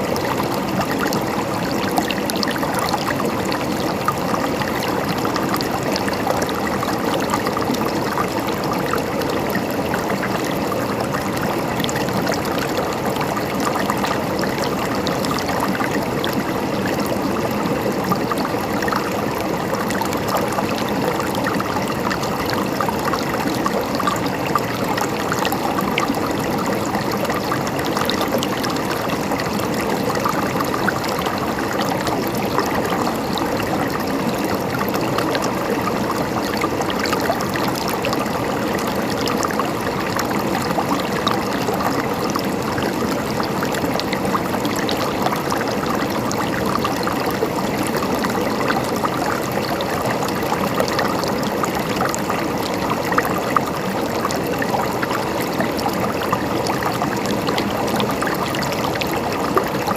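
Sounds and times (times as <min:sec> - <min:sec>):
water gurgling and trickling: 0:00.0 - 0:59.9.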